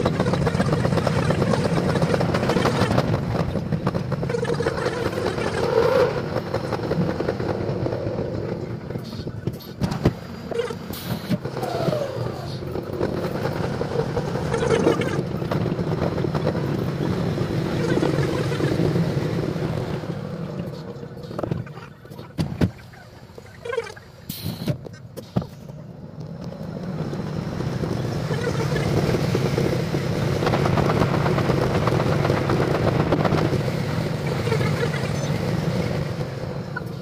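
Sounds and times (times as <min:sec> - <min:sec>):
electric train running: 0:00.0 - 0:22.4, 0:24.1 - 0:37.0.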